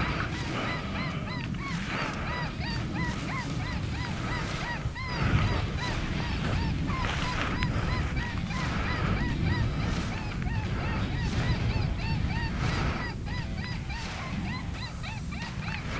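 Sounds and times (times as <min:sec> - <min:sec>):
honking calls: 0:00.0 - 0:15.9
low rumble: 0:00.0 - 0:15.9.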